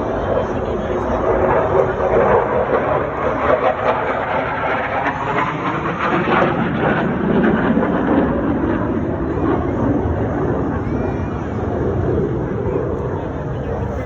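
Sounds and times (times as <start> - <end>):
jet engine rushing: 0.0 - 14.0.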